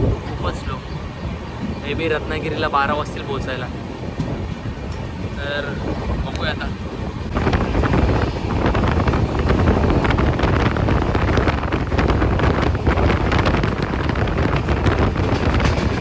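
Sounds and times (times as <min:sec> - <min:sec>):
train rumbling and rattling: 0:00.0 - 0:16.0
wind buffeting microphone: 0:00.0 - 0:16.0.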